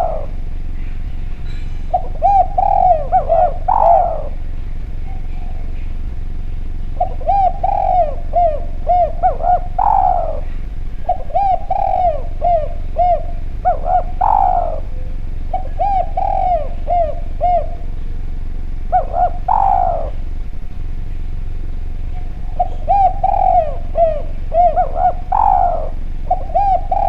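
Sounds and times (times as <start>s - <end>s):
dove cooing: 0.0s - 27.0s
low hum: 0.0s - 27.0s.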